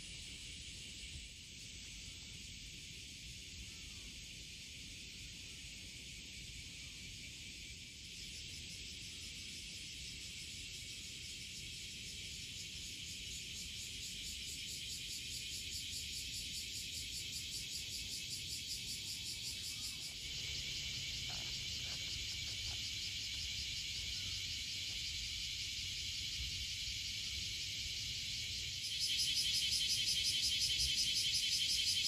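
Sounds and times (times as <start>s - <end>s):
cicadas droning: 0.0s - 32.0s.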